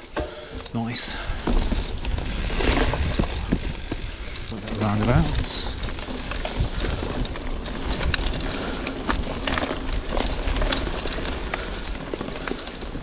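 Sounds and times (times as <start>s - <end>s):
bike clicks and rattles: 0.0s - 13.0s
bike tyres on dirt trail: 0.0s - 13.0s.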